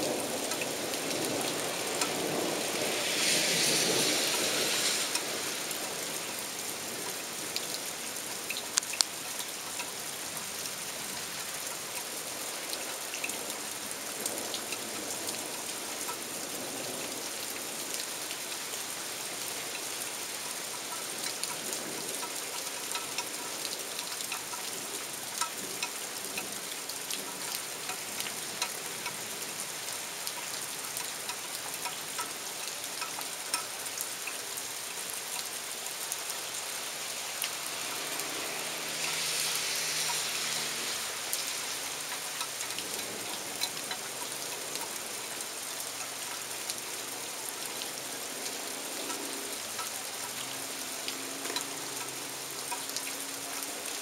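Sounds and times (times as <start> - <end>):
steady rain: 0.0 - 54.0
sharp drips ticking: 4.3 - 16.5, 17.2 - 48.3, 48.9 - 54.0.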